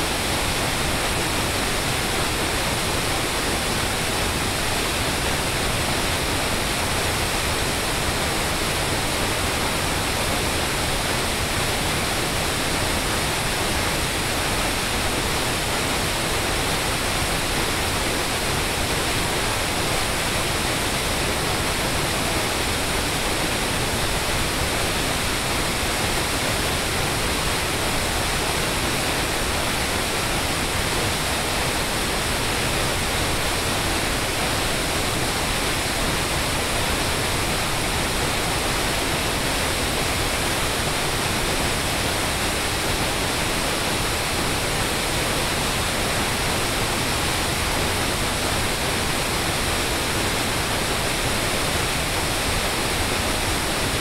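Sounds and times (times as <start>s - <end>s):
water pouring over waterfall: 0.0s - 54.0s.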